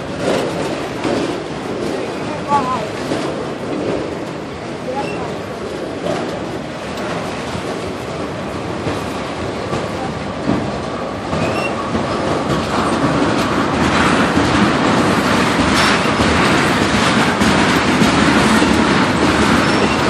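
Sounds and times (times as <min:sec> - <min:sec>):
train wheels clacking over rail joints: 0:00.0 - 0:20.0.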